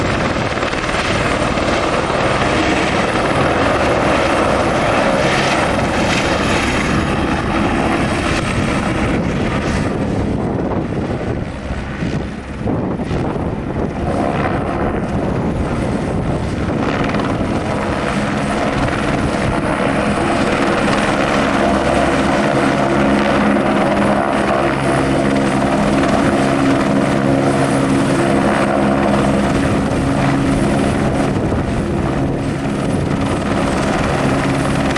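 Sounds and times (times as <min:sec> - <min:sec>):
helicopter turbine and rotor: 0:00.0 - 0:34.9.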